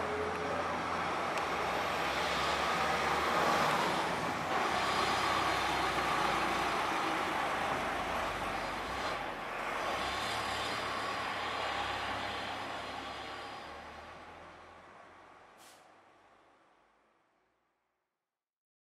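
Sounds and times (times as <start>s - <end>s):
road traffic: 0.0s - 17.6s.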